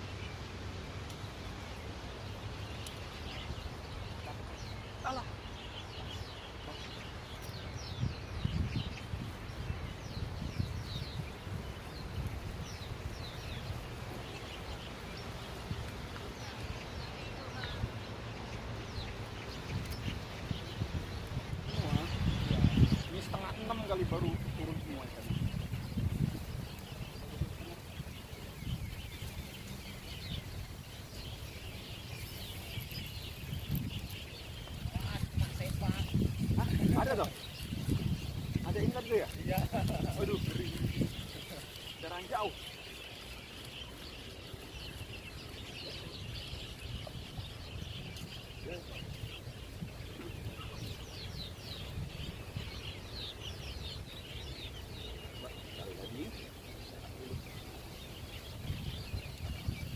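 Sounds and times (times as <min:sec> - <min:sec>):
small birds chirping: 0:00.0 - 0:59.9
wind rumble on microphone: 0:00.0 - 0:59.9.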